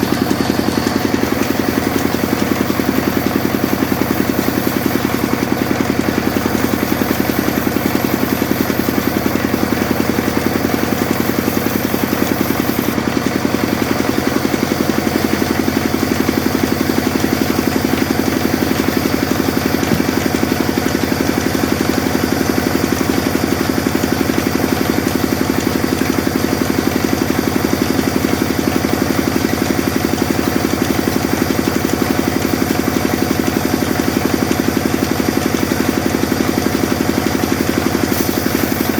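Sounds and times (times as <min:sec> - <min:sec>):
sawmill machine running: 0:00.0 - 0:38.9.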